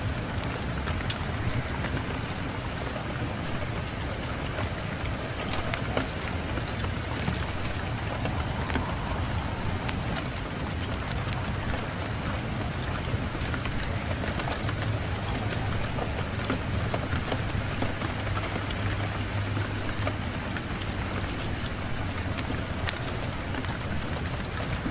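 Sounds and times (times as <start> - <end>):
fireplace fire crackling: 0.0 - 24.9
low wind rumble: 0.0 - 24.9.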